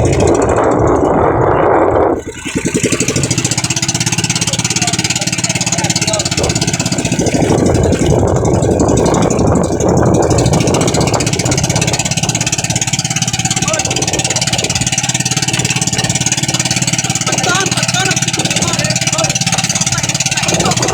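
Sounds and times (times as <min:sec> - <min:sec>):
boat engine chugging: 0:00.0 - 0:20.9.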